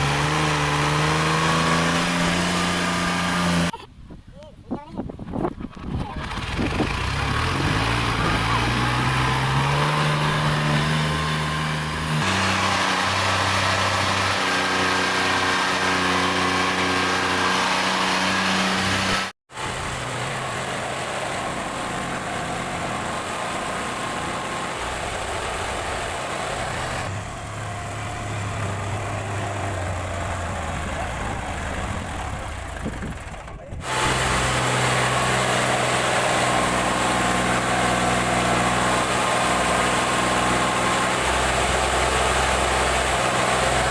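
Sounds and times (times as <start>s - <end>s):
tractor engine under load: 0.0s - 3.8s, 5.1s - 43.9s.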